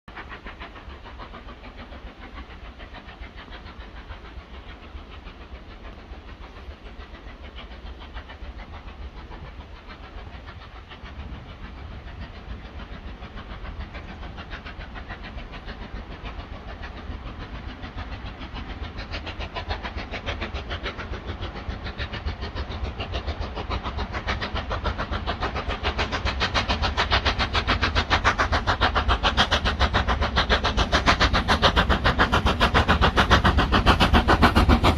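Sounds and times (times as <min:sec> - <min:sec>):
steam locomotive exhaust beats: 0:00.1 - 0:34.9.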